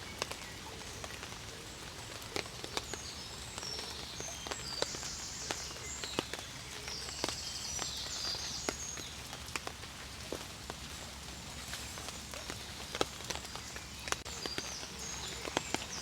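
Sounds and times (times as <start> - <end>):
drops tapping on tarp: 0.0 - 1.6, 2.2 - 16.0.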